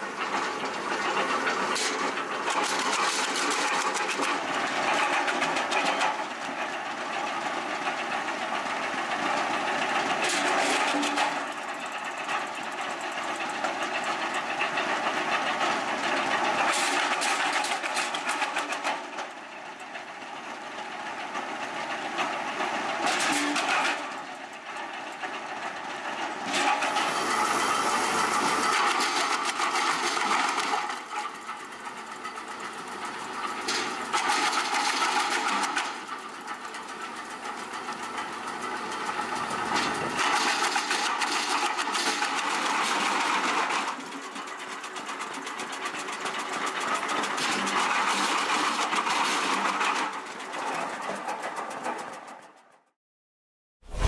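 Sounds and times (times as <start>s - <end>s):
wood chipper chewing branches: 0.0s - 19.6s, 22.0s - 51.7s.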